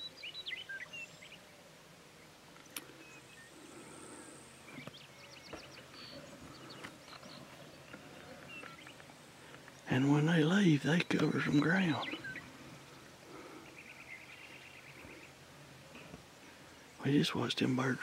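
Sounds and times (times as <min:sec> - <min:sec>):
distant birds chirping: 0:00.0 - 0:18.0.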